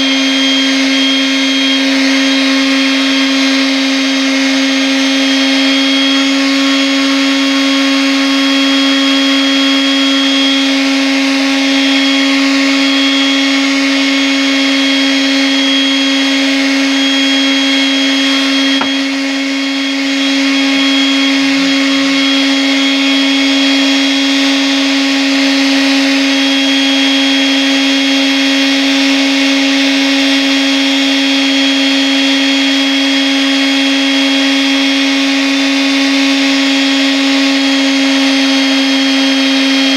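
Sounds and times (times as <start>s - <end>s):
electric sander running: 0.0s - 39.9s.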